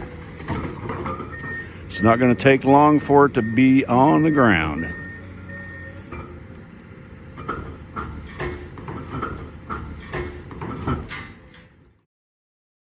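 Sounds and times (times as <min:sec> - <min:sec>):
demolition machinery engine rumble: 0:00.0 - 0:12.0.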